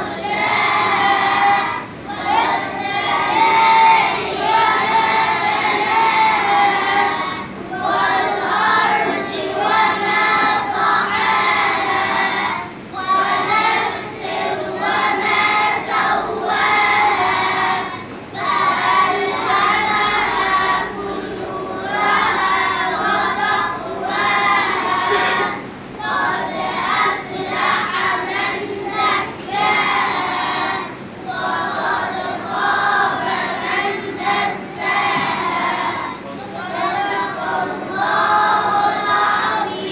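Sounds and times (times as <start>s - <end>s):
children singing: 0.0s - 39.9s.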